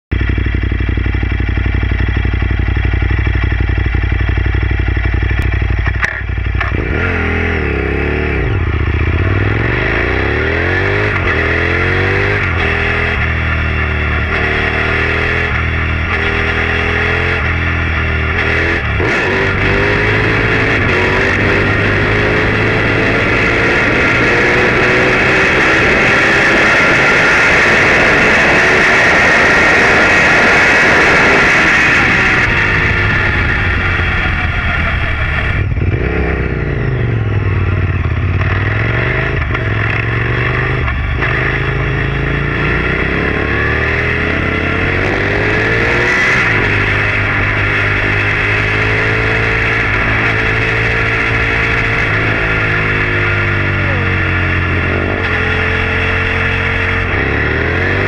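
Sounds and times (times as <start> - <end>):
motorcycle engine revving: 0.1 - 58.0.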